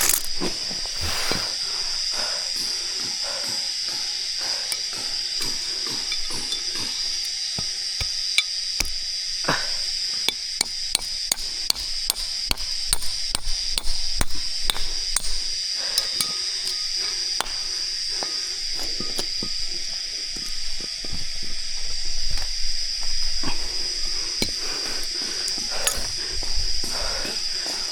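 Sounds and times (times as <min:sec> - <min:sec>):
high-pitched insect drone: 0:00.0 - 0:27.9.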